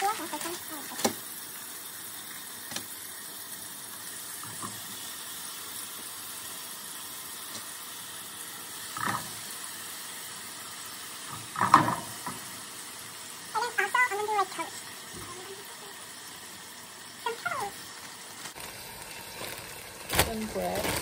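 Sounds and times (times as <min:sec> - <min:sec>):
oil hissing in a pan: 0:00.0 - 0:21.0.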